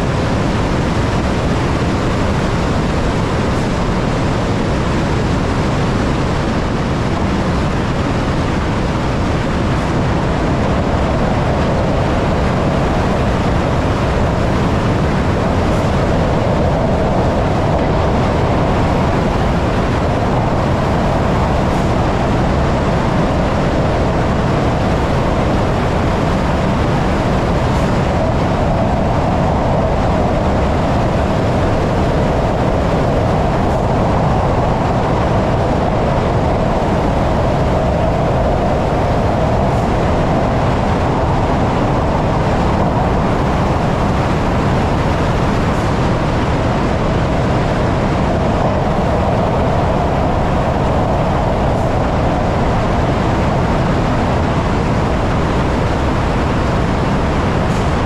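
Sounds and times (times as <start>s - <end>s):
train rumbling through tunnel: 0.0s - 58.0s.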